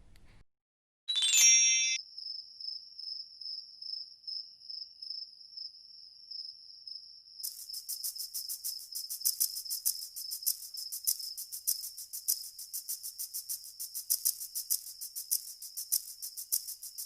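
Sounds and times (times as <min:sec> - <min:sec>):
fast pulsing cricket chirp: 0:02.1 - 0:17.0.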